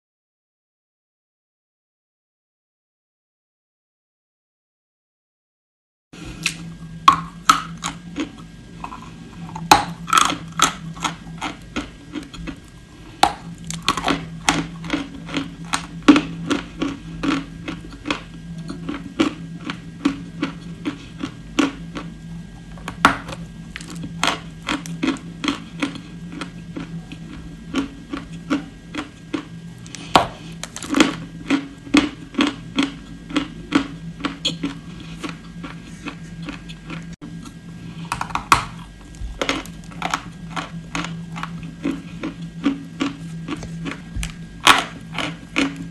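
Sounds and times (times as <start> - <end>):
crunchy chewing: 6.2 - 45.9
steady low hum: 6.2 - 45.9.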